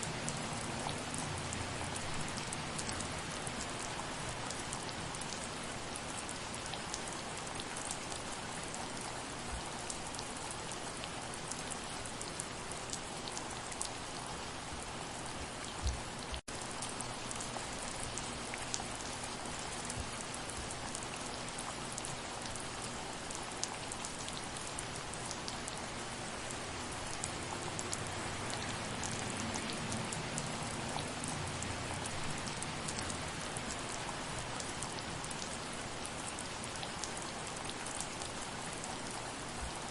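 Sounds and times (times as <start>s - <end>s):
soft rain on a surface: 0.0s - 39.9s.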